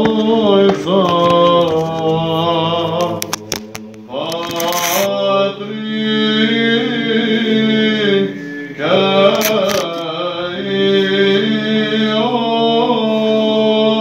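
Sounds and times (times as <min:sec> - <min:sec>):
low held drone: 0:00.0 - 0:13.8
male voices chanting a hymn: 0:00.0 - 0:14.0.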